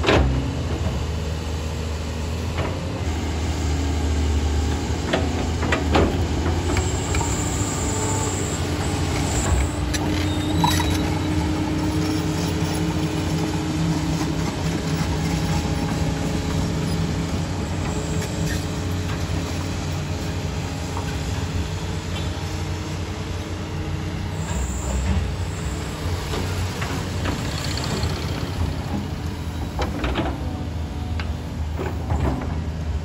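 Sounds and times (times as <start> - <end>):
excavator diesel engine running: 0.2 - 33.0.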